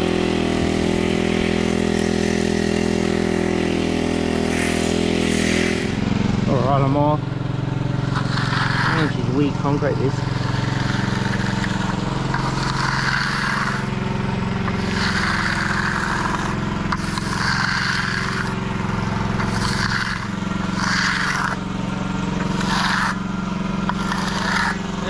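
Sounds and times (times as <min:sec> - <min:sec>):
broom scraping on concrete: 0:00.0 - 0:06.2, 0:07.9 - 0:25.0
small engine running: 0:00.0 - 0:25.0.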